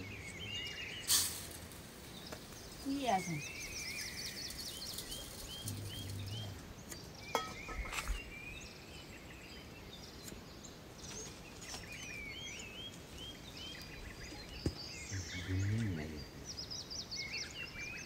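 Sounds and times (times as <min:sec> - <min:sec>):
background hiss: 0:00.0 - 0:18.0
small birds chirping: 0:00.0 - 0:18.0.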